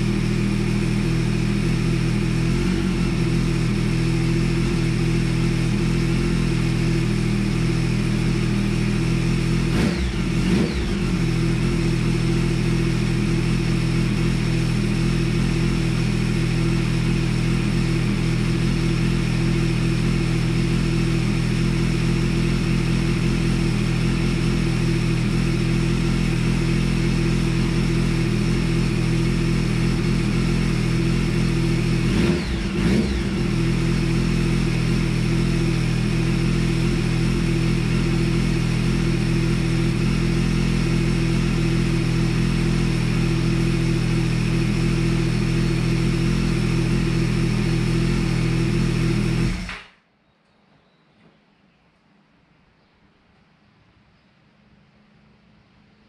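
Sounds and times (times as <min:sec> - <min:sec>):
motorcycle engine idling: 0:00.0 - 0:49.9.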